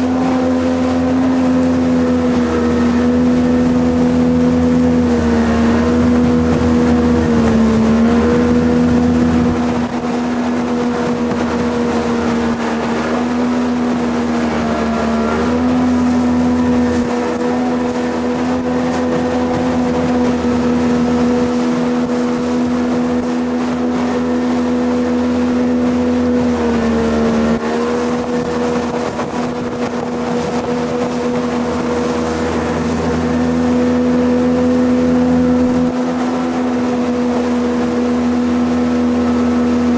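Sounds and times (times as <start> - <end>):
boat engine running at speed: 0.0 - 39.9
water and wind noise: 0.0 - 39.9.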